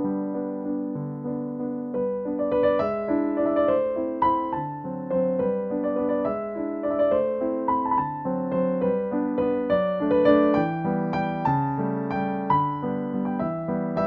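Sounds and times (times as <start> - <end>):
piano waltz: 0.0 - 14.0.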